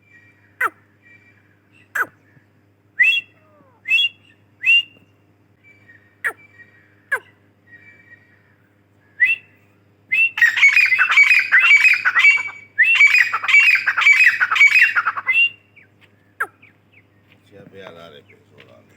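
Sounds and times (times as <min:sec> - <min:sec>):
francolin calling: 0:00.0 - 0:17.2.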